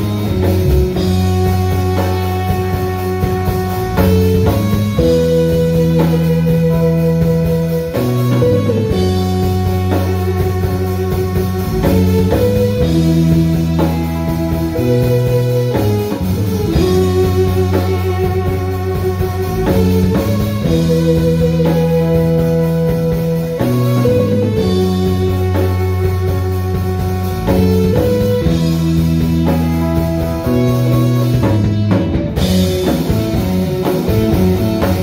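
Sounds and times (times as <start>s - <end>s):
live rock band playing: 0.0s - 35.0s
steady drum beat: 0.0s - 35.0s.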